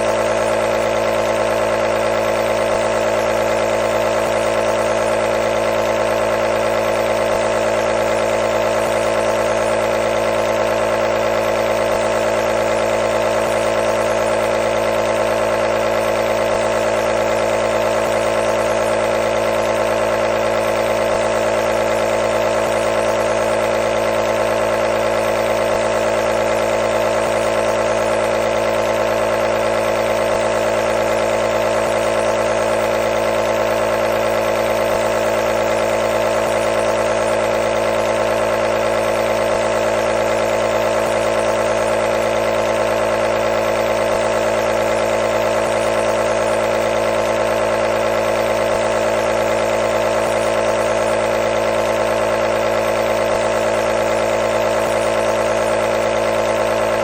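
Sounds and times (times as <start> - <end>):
compressor motor humming: 0.0 - 57.0.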